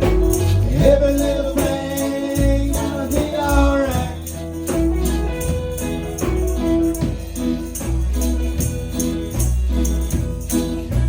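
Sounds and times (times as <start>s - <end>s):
band playing reggae: 0.0s - 11.0s.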